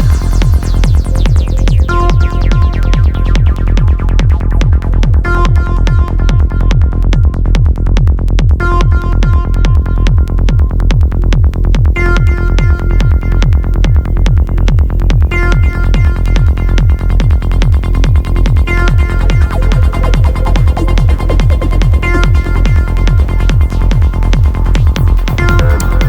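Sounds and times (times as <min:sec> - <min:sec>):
electronic dance music: 0:00.0 - 0:26.0.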